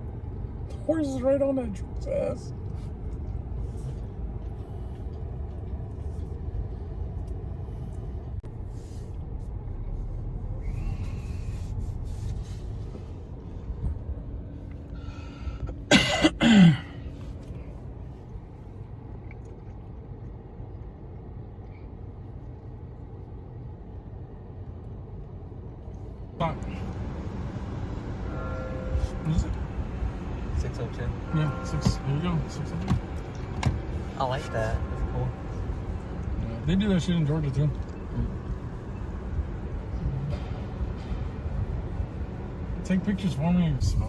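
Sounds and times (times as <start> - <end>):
car road and engine rumble: 0.0 - 44.0.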